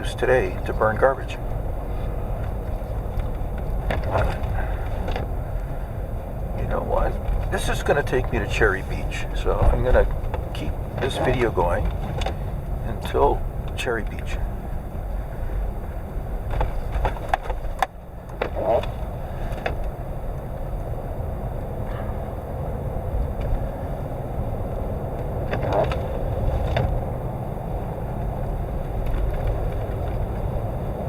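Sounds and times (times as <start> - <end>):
car engine and tyres rumbling: 0.0 - 31.0.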